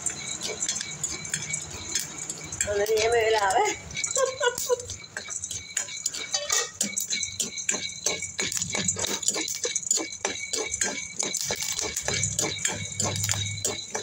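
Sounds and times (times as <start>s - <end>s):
kernels rattling in a pot: 0.0s - 14.0s
popcorn popping: 0.0s - 14.0s.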